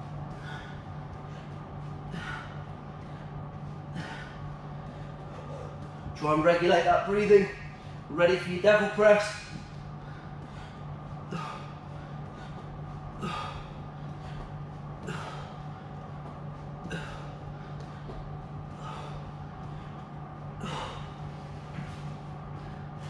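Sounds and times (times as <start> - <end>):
man breathing hard: 0.0 - 6.2, 7.7 - 8.1, 9.6 - 23.0
steady low hum: 0.0 - 23.0.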